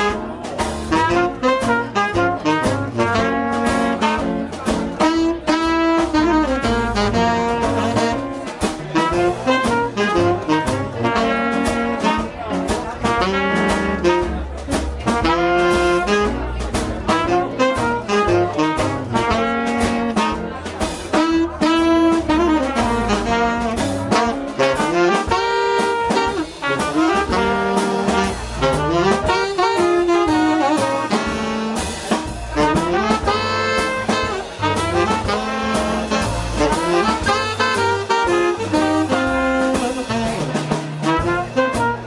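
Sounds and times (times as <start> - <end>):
double bass: 0.0 - 42.0
drums and cymbals: 0.0 - 42.0
piano: 0.0 - 42.0
tenor saxophone: 0.0 - 42.0
trumpet: 0.0 - 42.0.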